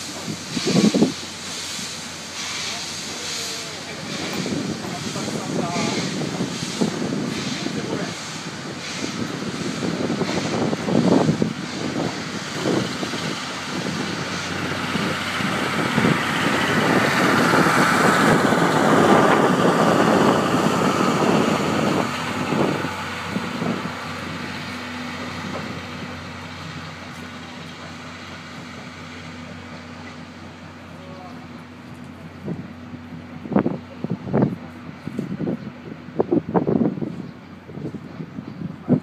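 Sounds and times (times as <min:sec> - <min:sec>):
steam train rolling past: 0:00.0 - 0:39.0.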